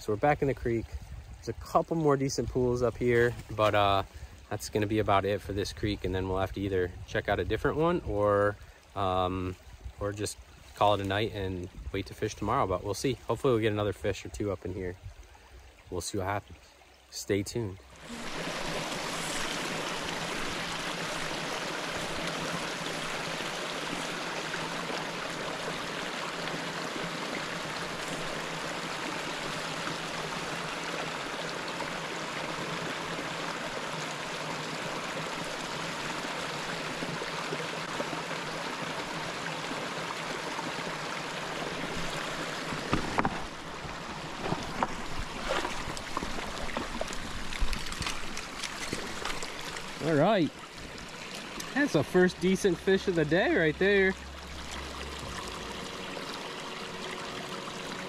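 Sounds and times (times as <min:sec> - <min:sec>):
brook water rushing over rocks: 0:00.0 - 0:06.8, 0:07.4 - 0:58.0.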